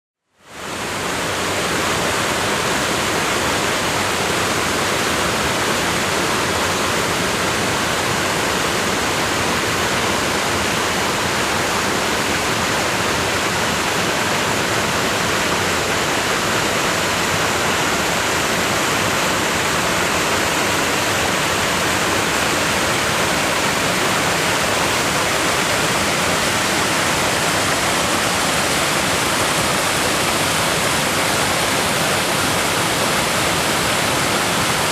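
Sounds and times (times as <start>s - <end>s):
waterfall roaring: 0.5s - 34.9s.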